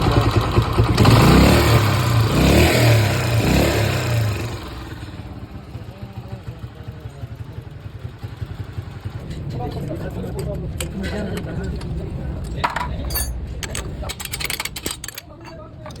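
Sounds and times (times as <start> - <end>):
motorcycle engine revving and idling: 0.0 - 16.0.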